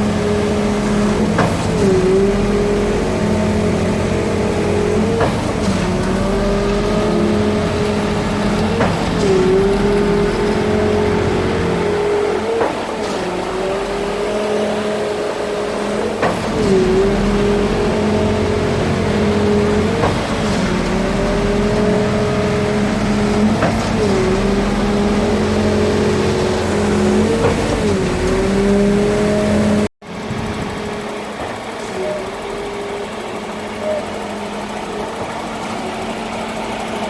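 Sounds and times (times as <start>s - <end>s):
diesel engine at high revs: 0.0s - 37.0s
pump clunk: 0.0s - 37.0s.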